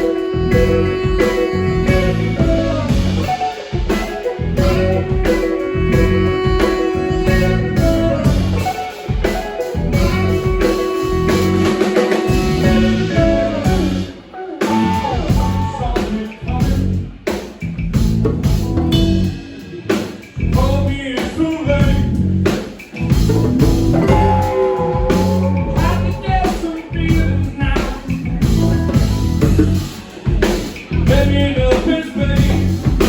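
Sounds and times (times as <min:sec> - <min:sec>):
guitar lines: 0:00.0 - 0:16.5, 0:18.6 - 0:33.0
bass guitar: 0:00.0 - 0:33.0
drum kit: 0:00.0 - 0:33.0.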